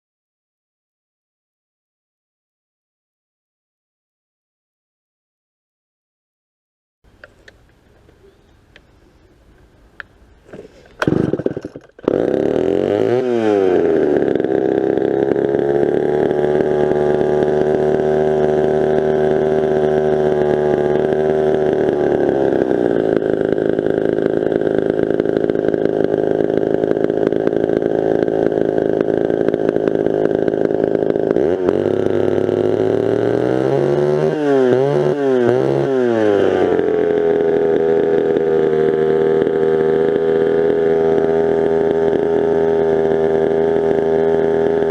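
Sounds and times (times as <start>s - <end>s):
chainsaw starting and running: 7.1s - 44.9s.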